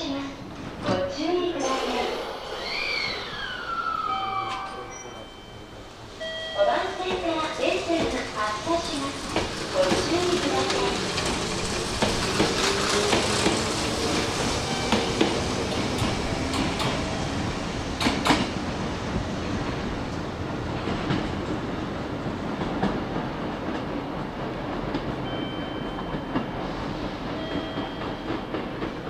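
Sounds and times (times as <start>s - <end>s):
electric train wheels clacking: 5.7s - 29.0s.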